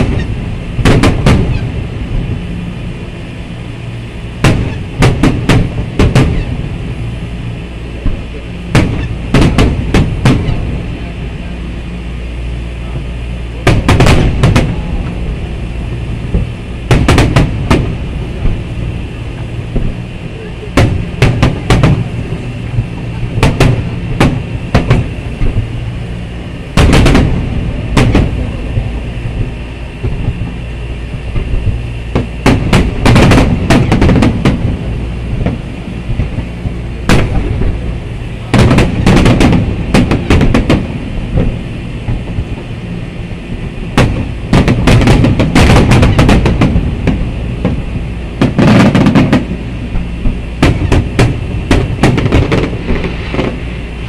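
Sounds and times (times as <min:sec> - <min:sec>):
fireworks bursting with loud bangs: 0:00.0 - 0:02.5, 0:04.3 - 0:06.7, 0:08.0 - 0:11.0, 0:13.6 - 0:54.0
low rumble: 0:00.0 - 0:54.0.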